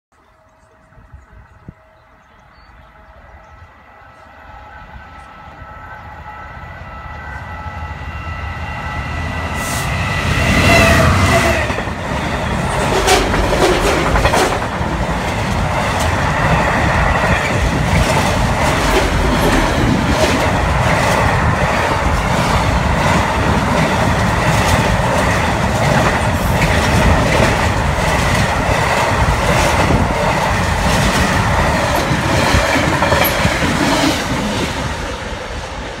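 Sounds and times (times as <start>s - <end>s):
diesel locomotive passing: 0.2s - 36.0s.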